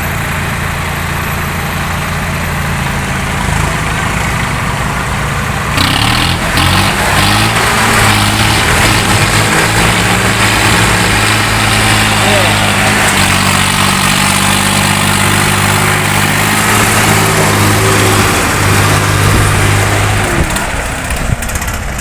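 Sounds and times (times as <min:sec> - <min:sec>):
diesel tractor engines under load: 0:00.0 - 0:22.0.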